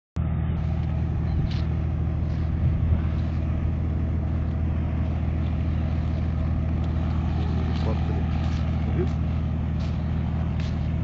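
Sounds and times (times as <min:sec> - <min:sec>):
helicopter engine and rotor running: 0:00.2 - 0:11.0.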